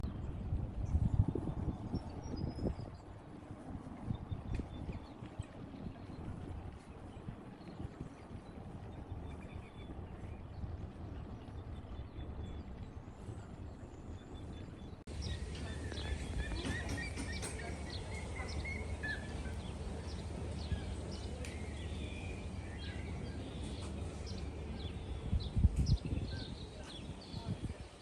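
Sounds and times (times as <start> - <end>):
small birds chirping: 4.0 - 28.0.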